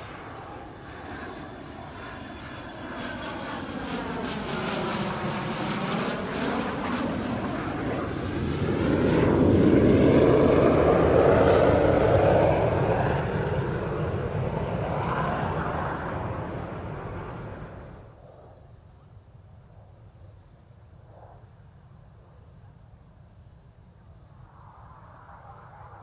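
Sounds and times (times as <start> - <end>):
jet plane passing low: 0.0 - 19.1, 19.7 - 22.7, 23.4 - 26.0.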